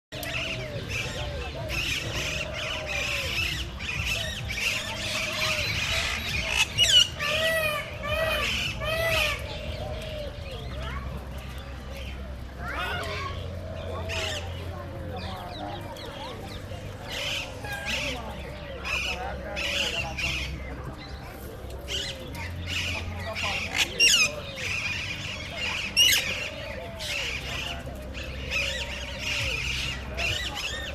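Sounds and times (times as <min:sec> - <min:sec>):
birds calling and squawking: 0:00.1 - 0:30.9.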